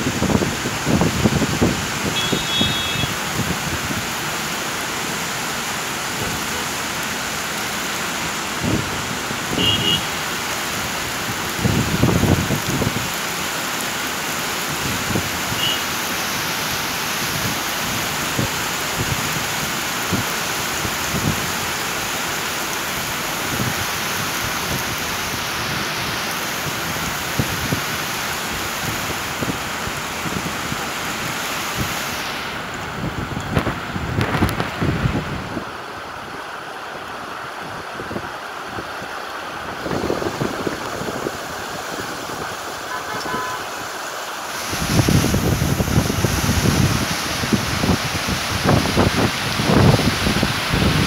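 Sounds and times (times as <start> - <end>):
flowing floodwater: 0.0 - 51.0
heavy rain: 0.0 - 51.0.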